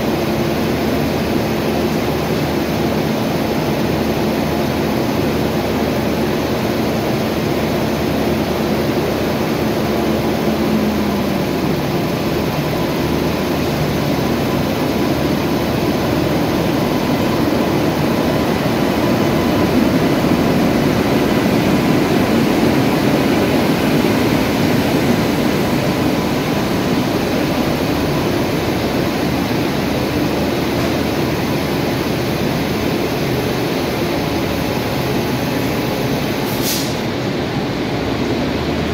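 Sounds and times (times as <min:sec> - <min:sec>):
electric locomotive machinery hum: 0:00.0 - 0:38.9
train coaches rolling by: 0:00.0 - 0:38.9.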